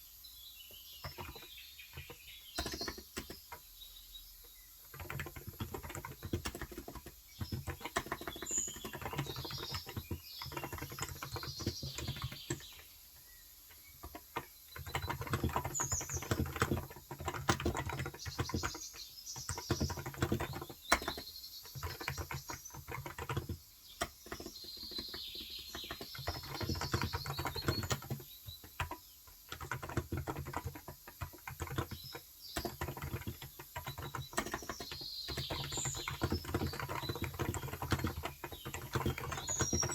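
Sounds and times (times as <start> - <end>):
birds chirping: 0.0 - 39.9
fast keyboard typing: 0.9 - 3.7, 4.5 - 13.0, 13.6 - 39.9.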